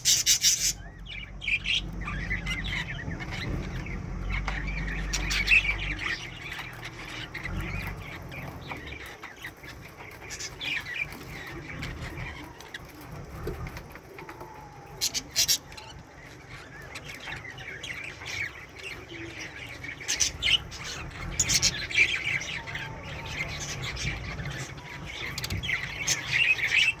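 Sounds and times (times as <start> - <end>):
budgerigars chirping and squawking: 0.0 - 27.0.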